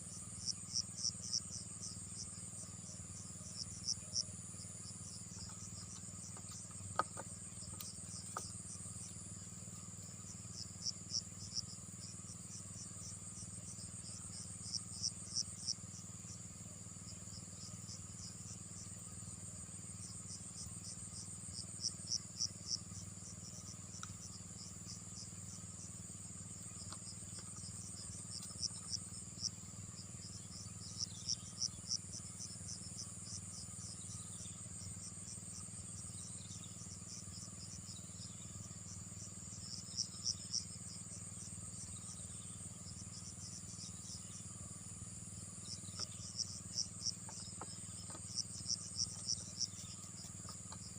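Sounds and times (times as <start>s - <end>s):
insects trilling: 0.0s - 50.9s
rapid insect chirps: 0.0s - 50.9s.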